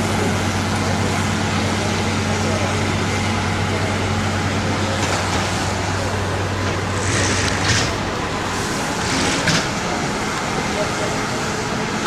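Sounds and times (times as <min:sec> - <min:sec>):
fire engines idling: 0:00.0 - 0:12.0.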